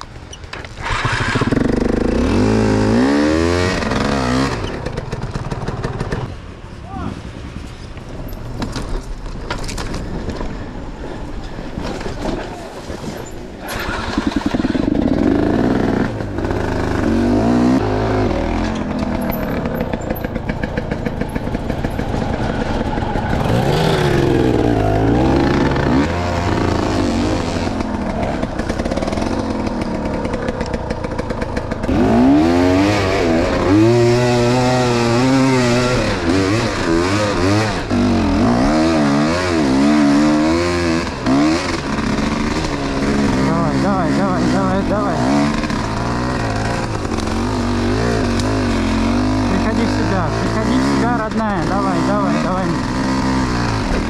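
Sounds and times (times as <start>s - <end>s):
motorcycle engine revving: 0.5s - 6.4s, 13.6s - 54.0s.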